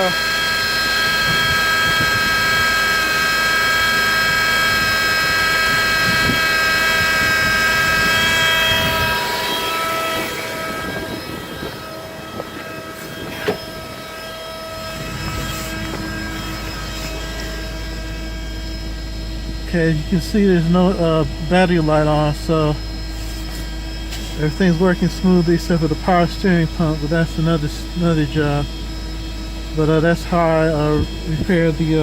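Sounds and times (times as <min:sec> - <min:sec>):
car engine idling: 0:02.2 - 0:32.0.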